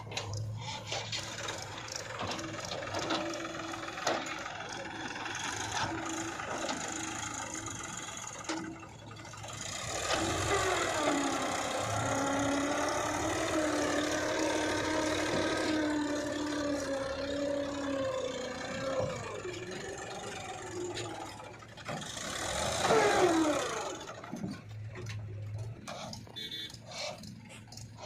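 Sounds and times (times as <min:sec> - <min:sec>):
diesel engine working under load: 0:00.0 - 0:28.0.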